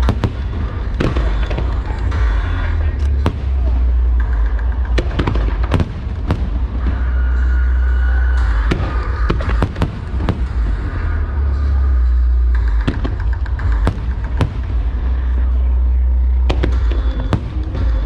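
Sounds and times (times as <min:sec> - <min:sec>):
fireworks cracking: 0:00.0 - 0:07.5, 0:08.4 - 0:18.0
deep rumble: 0:00.0 - 0:18.0.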